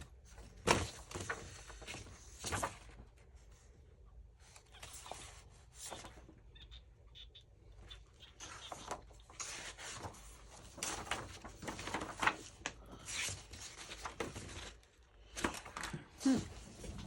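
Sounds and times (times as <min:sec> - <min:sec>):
paper rustling and shuffling: 0:00.0 - 0:03.8, 0:04.4 - 0:06.3, 0:08.4 - 0:17.0.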